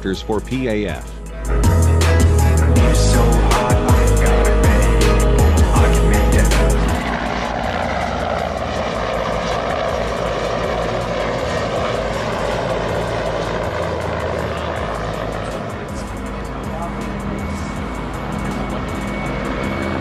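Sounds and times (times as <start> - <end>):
helicopter running: 0.0 - 20.0.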